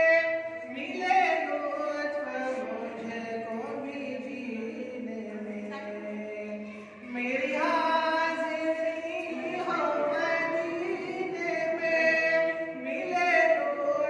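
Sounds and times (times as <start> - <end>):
person chanting unaccompanied: 0.0 - 14.0.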